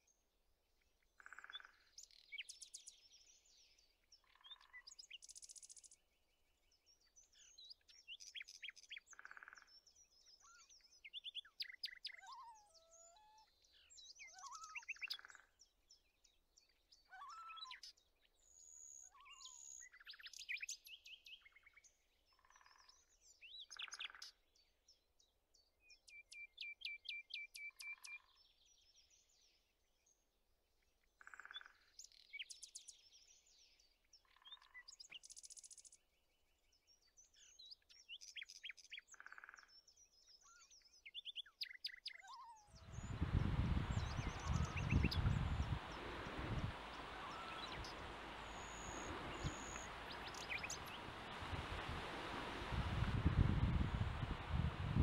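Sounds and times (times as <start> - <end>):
songbirds singing and chirping: 1.1 - 30.3, 31.0 - 55.0.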